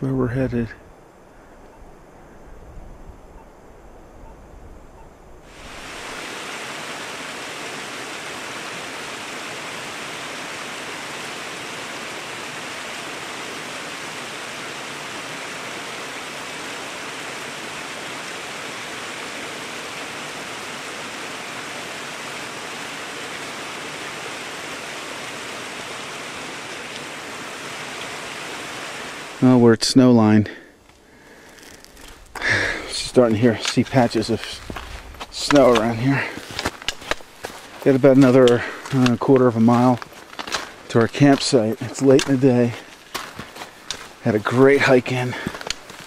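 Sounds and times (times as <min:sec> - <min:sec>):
creek rushing over rocks: 0:05.5 - 0:30.4, 0:31.2 - 0:46.0.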